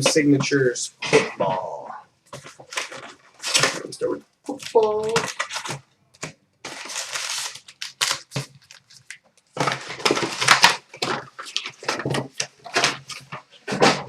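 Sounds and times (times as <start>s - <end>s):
wrapper and cardboard crinkling and tearing: 2.4s - 14.0s.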